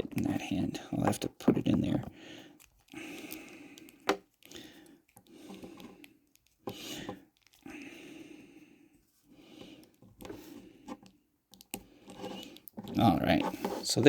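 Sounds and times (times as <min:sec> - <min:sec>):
plastic parts scraping and rubbing: 0:00.0 - 0:04.5, 0:05.1 - 0:07.7, 0:09.6 - 0:14.0.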